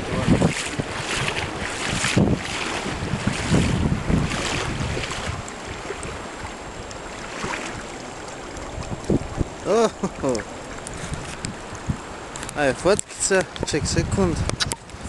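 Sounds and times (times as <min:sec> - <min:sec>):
river water rushing: 0:00.0 - 0:13.7
wind buffeting microphone: 0:00.0 - 0:15.0.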